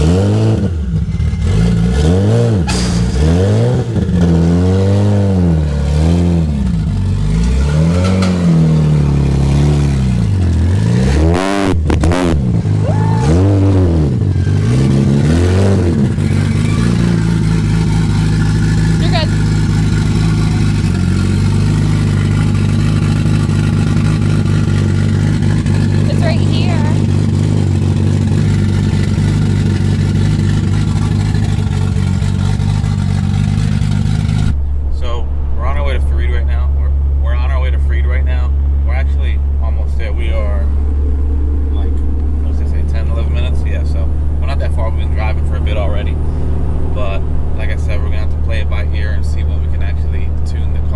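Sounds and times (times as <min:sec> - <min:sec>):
car engine idling: 0:00.0 - 0:50.9
car engine revving: 0:00.0 - 0:50.9
road noise: 0:00.0 - 0:50.9.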